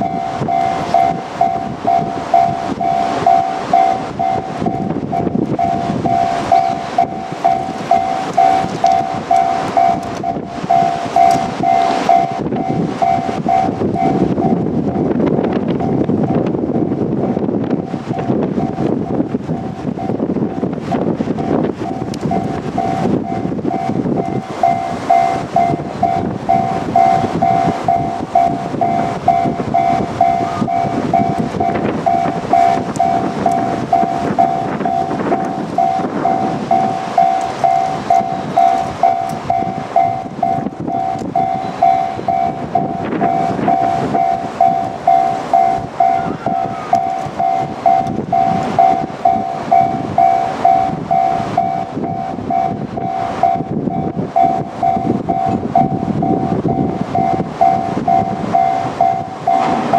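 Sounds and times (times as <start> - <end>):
level crossing warning bell: 0.0 - 59.9
train rumbling past on rails: 0.0 - 59.9.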